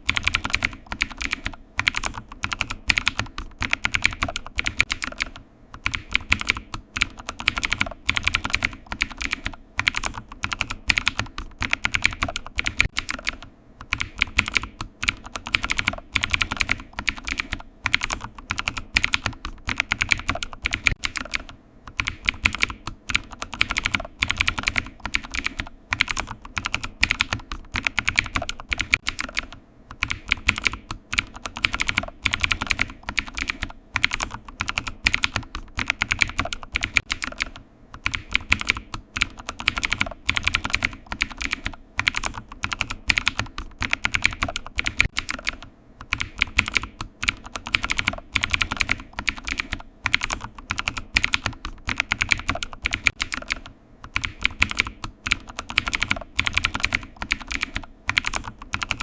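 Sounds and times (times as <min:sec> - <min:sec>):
computer keyboard typing: 0:00.0 - 0:59.0.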